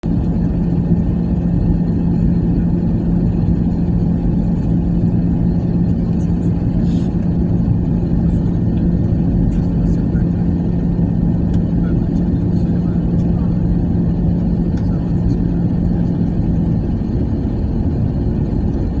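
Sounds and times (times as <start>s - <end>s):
airplane cabin engine rumble: 0.0s - 19.0s
steady hum: 0.0s - 19.0s.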